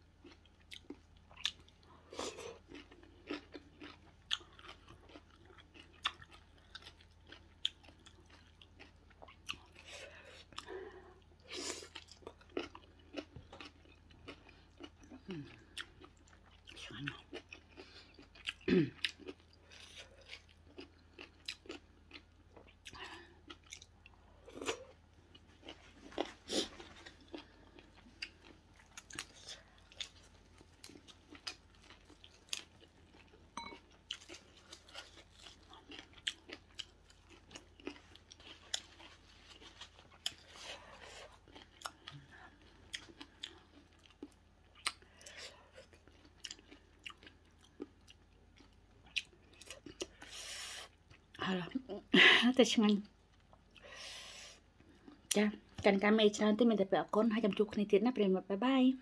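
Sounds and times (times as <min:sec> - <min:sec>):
person chewing crunchy food: 0:00.0 - 0:51.4.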